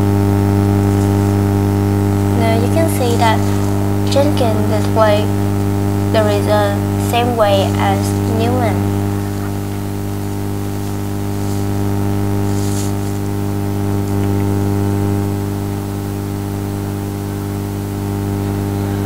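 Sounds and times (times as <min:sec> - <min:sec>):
constant hiss: 0:00.0 - 0:19.0
electrical hum: 0:00.0 - 0:19.0.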